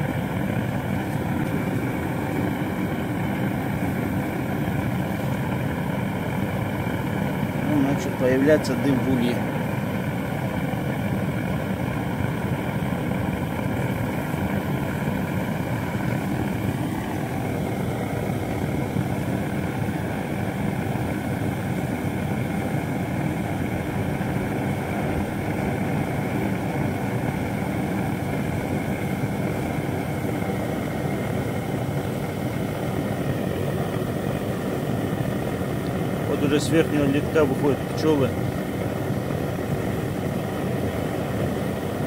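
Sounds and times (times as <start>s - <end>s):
blowtorch running: 0.0s - 42.0s.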